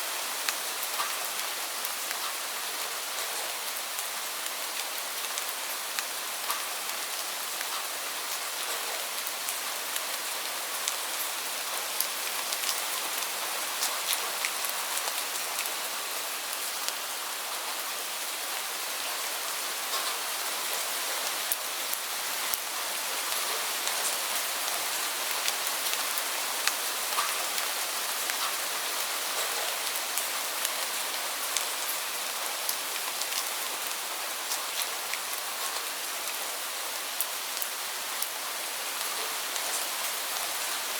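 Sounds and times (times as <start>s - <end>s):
raindrops ticking on a surface: 0.2s - 40.9s.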